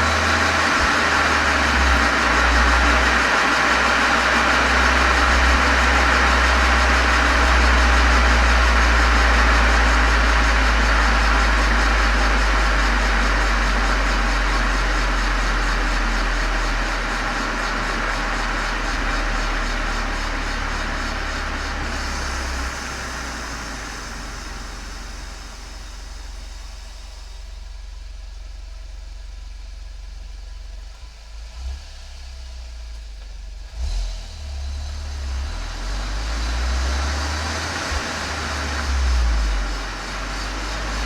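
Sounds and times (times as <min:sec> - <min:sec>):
car exhaust drone: 0:00.0 - 0:41.0.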